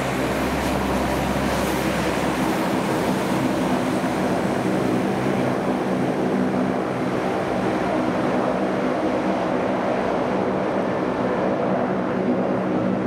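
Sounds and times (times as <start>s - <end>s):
turboprop engines running: 0.0s - 13.0s.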